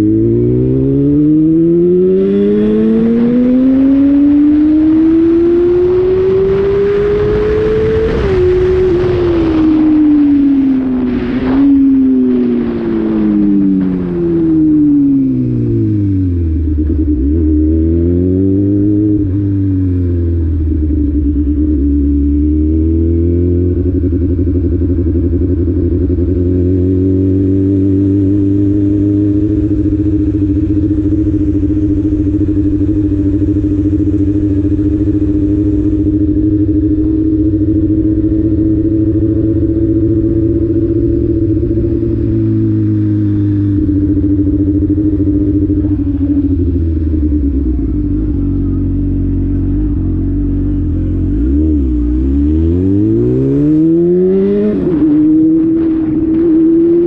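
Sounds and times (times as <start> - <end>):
engine at high revs: 0.0 - 57.0.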